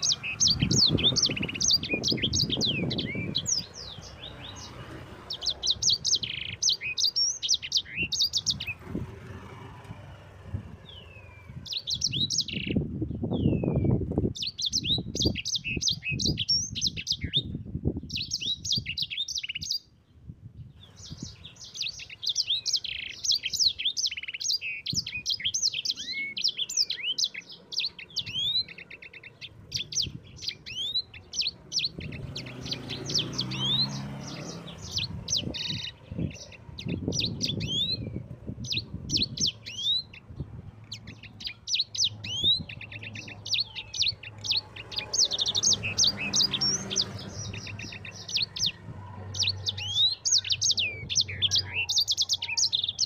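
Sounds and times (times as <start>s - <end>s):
songbird twittering song: 0.0s - 53.0s.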